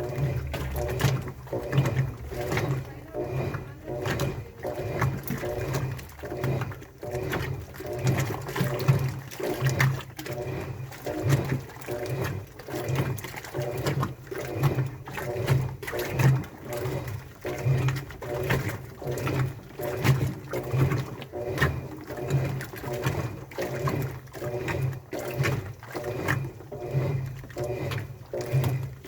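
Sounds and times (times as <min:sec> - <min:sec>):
washing machine motor hum: 0:00.0 - 0:29.0
water sloshing in drum: 0:00.0 - 0:29.0.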